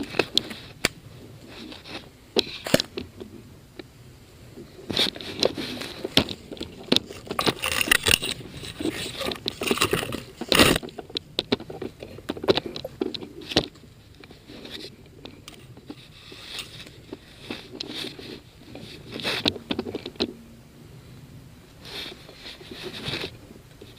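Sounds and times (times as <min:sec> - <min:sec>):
scraping and rattling on camera: 0:00.0 - 0:03.5, 0:04.5 - 0:20.4, 0:21.8 - 0:23.9
rush of noise: 0:00.0 - 0:23.9.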